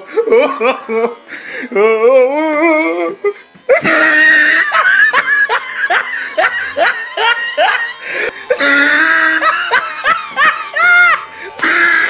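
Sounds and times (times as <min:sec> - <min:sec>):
group of people laughing: 0:00.0 - 0:12.0.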